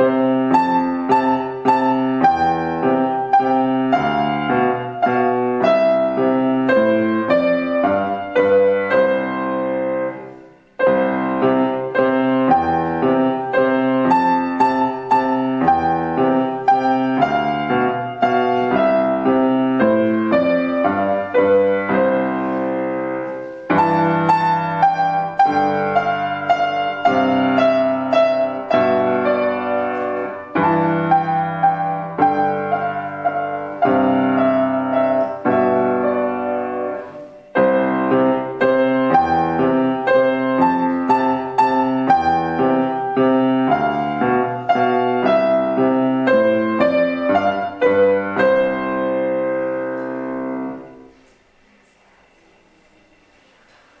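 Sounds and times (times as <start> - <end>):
classical piano piece: 0.0 - 54.0.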